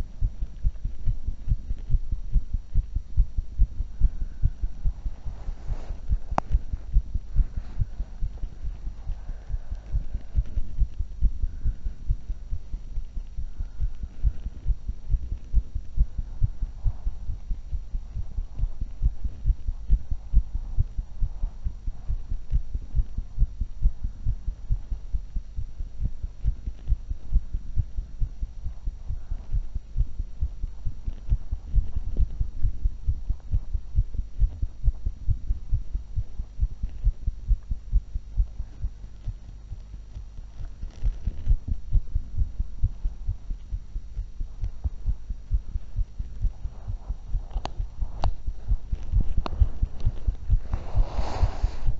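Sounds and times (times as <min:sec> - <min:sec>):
heart beating fast: 0:00.0 - 0:51.9.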